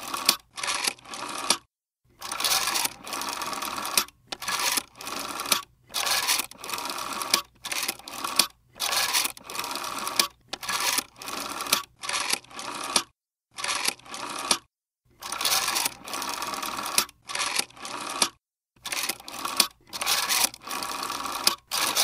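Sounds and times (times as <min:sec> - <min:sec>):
rotary telephone dial whirring: 0:00.0 - 0:22.0.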